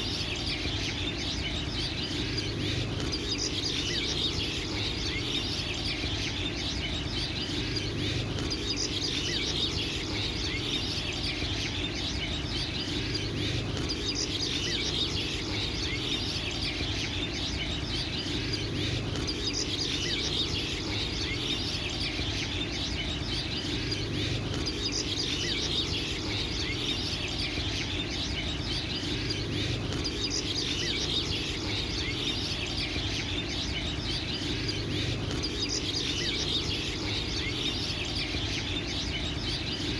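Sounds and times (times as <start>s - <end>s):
birds chirping chorus: 0.0s - 39.9s
low steady background: 0.0s - 39.9s.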